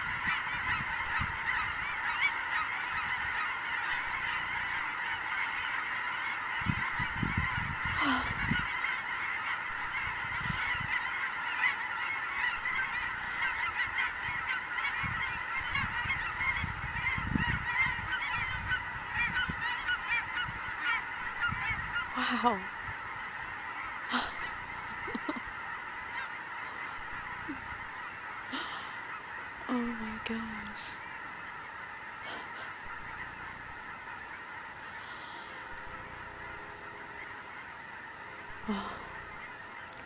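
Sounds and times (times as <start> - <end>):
flock of geese honking: 0.0 - 40.0.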